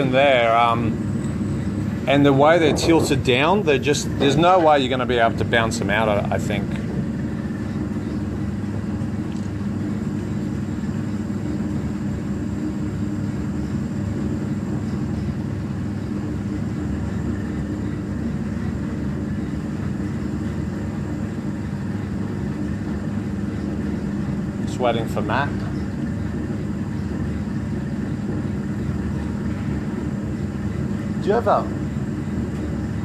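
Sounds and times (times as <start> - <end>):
machinery low drone: 0.0 - 33.0.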